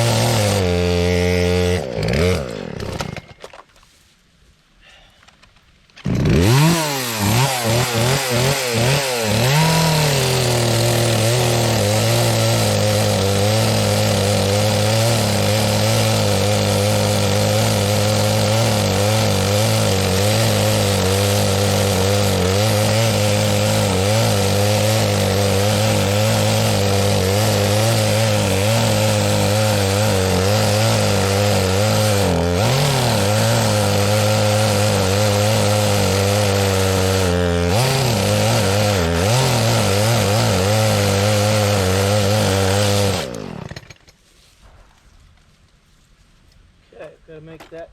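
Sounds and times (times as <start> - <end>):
chainsaw revving: 0.0 - 3.3, 6.0 - 44.1.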